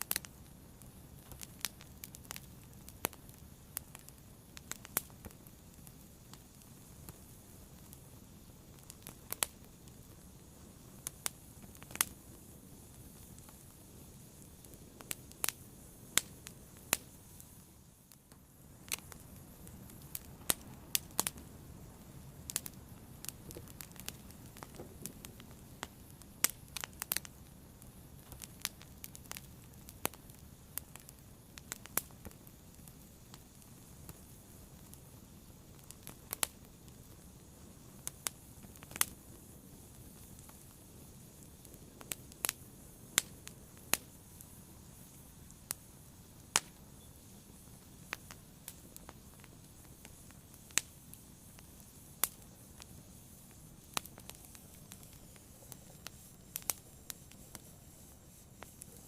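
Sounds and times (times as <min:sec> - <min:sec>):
fire crackling and popping: 0:00.0 - 0:59.0
low rush of flame: 0:00.0 - 0:59.0.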